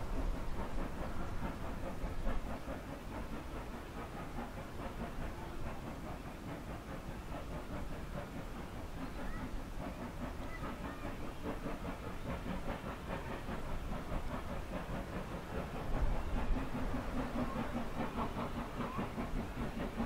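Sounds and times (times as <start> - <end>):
distant steam locomotive chuffing: 0.0 - 20.0.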